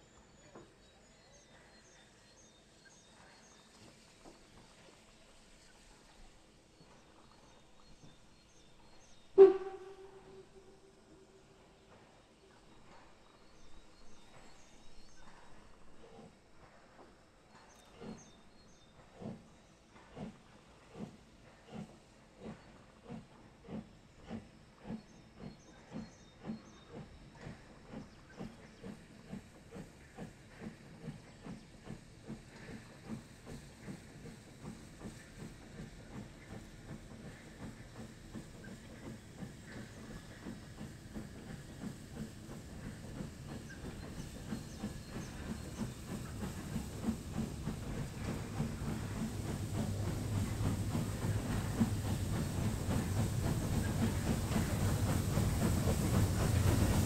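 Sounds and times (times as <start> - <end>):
steam locomotive chuffing: 0.0 - 57.0
steam hissing: 1.2 - 57.0.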